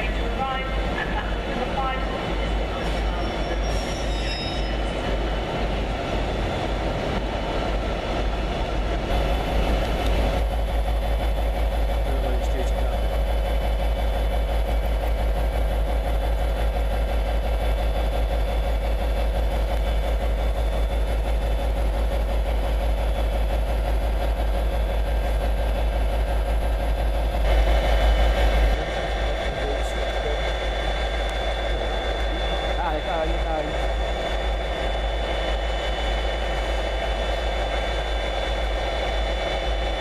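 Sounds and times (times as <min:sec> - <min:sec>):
diesel locomotive engine idling: 0:00.0 - 0:40.0.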